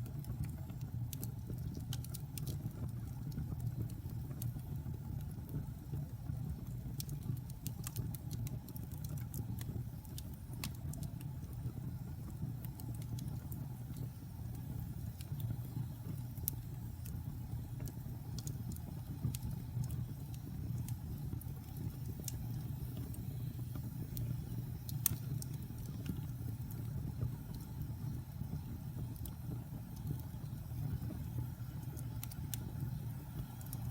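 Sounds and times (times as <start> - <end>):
fire crackling and popping: 0.0 - 33.9
low rumble of flames: 0.0 - 33.9.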